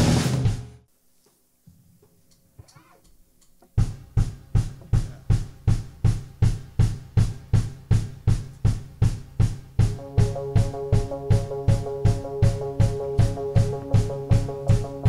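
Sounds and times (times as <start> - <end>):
drum kit beat: 0.0 - 0.8, 3.6 - 15.0.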